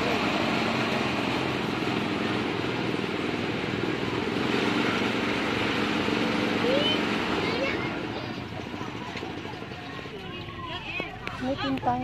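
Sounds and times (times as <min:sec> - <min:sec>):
motorcycle engines running: 0:00.0 - 0:12.0
road traffic noise: 0:00.0 - 0:12.0.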